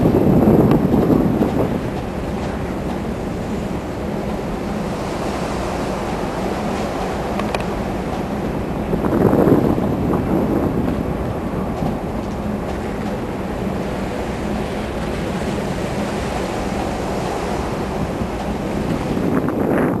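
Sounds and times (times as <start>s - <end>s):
sea water rushing along hull: 0.0s - 20.0s
steady low hum: 0.0s - 20.0s
wind buffeting microphone: 0.0s - 20.0s.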